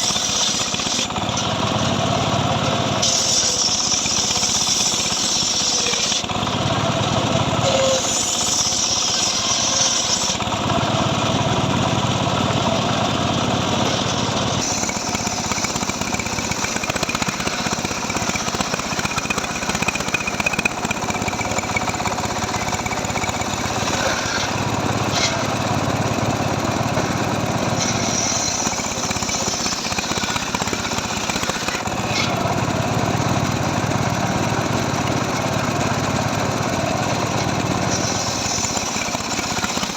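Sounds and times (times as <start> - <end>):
chainsaw cutting wood: 0.0 - 12.8, 13.5 - 39.9.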